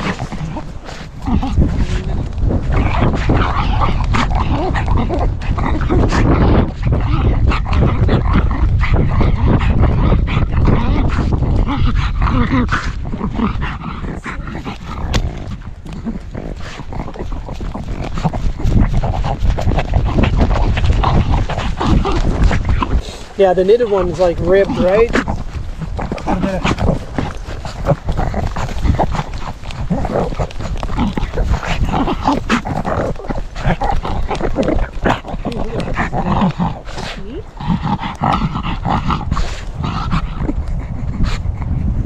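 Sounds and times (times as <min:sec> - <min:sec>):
dog breathing hard: 0:00.0 - 0:42.0
small dog noises: 0:00.0 - 0:42.0
wind rumble on microphone: 0:00.0 - 0:42.0.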